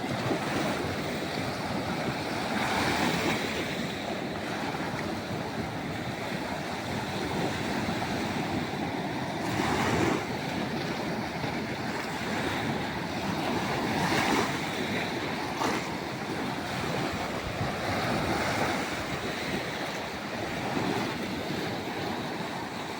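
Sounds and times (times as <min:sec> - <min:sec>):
waves breaking: 0:00.0 - 0:22.9
wind buffeting microphone: 0:00.0 - 0:22.9.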